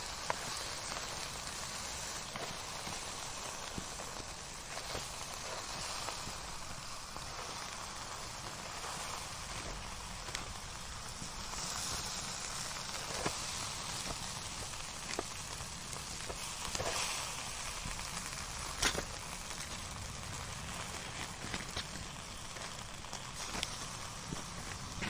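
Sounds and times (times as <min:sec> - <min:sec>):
fire crackling and popping: 0:00.0 - 0:25.0
hiss of flames: 0:00.0 - 0:25.0.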